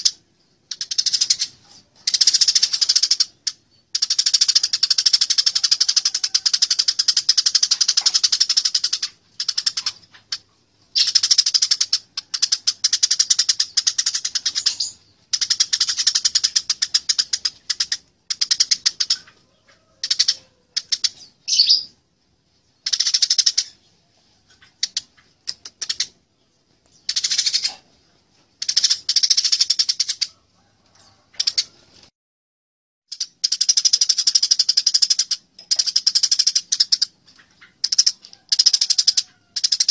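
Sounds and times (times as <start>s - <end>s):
sparrows chattering: 0.0s - 31.8s, 33.1s - 39.9s.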